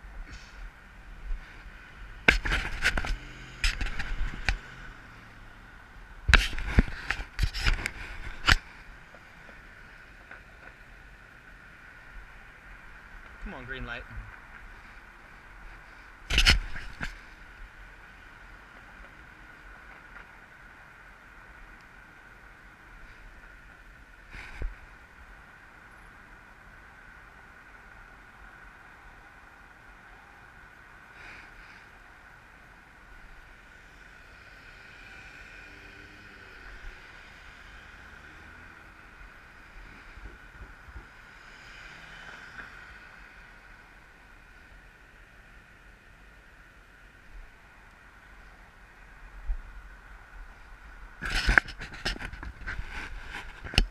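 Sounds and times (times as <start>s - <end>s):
wind and bicycle rolling noise: 0.0s - 53.9s.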